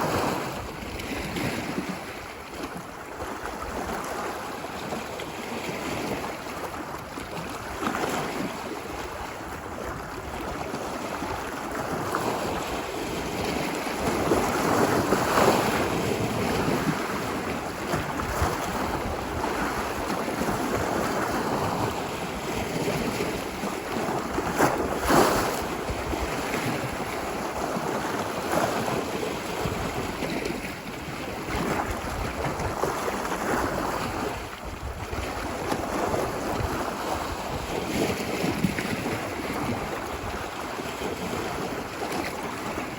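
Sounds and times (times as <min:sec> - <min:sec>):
ocean waves washing onto beach: 0:00.0 - 0:42.9.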